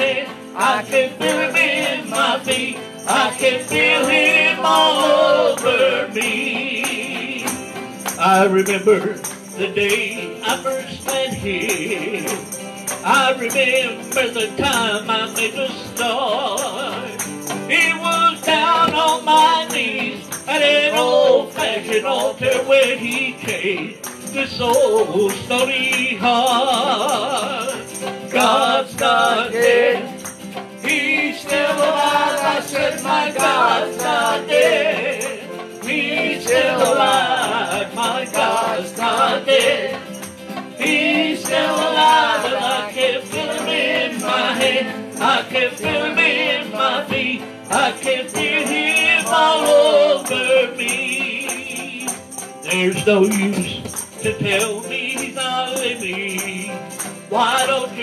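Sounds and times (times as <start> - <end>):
hands clapping: 0.0 - 58.0.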